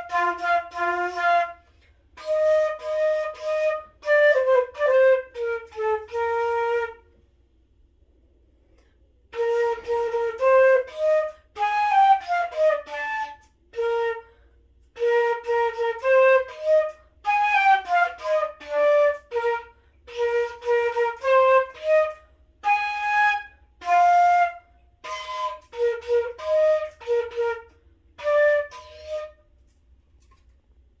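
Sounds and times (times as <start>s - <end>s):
solo flute melody: 0.0s - 7.3s, 9.3s - 29.8s.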